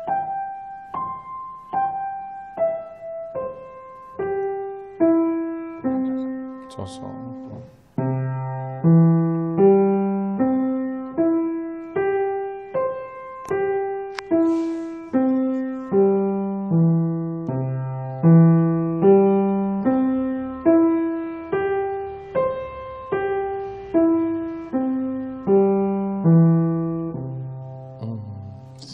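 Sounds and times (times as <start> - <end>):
piano arpeggio: 0.0 - 28.9.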